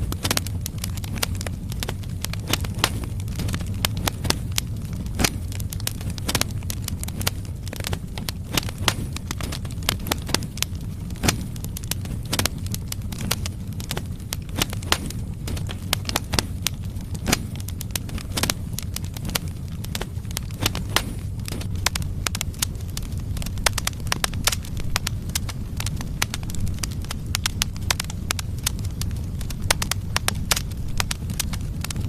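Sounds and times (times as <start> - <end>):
firewood crackling and popping: 0.0 - 32.0
low rumble of flames: 0.0 - 32.0.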